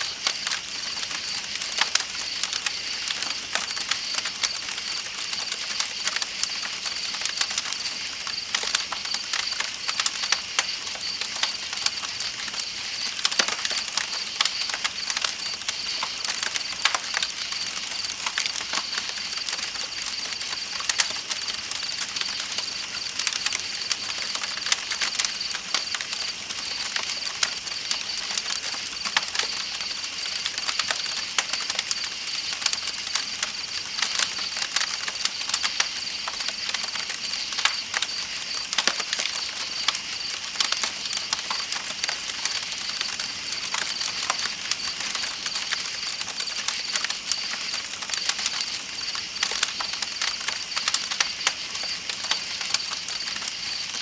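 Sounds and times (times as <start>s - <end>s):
night insects chirping: 0.0s - 54.0s
campfire crackling and popping: 0.1s - 54.0s.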